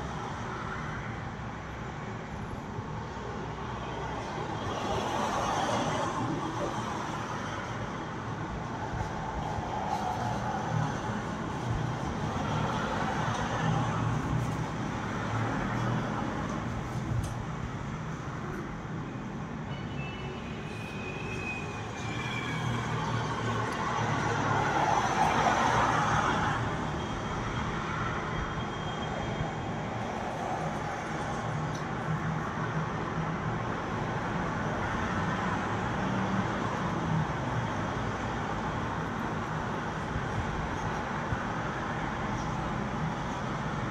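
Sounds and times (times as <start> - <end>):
traffic rumble: 0.0 - 43.9.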